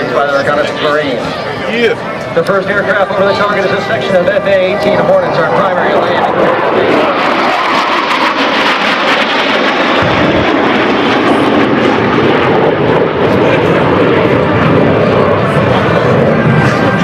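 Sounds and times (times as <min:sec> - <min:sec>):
jets flying over: 0:00.0 - 0:17.0.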